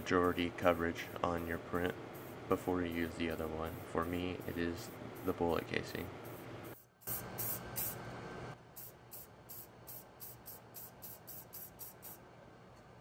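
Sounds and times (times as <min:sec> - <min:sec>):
spray can hissing: 0:00.1 - 0:08.0, 0:08.8 - 0:12.2.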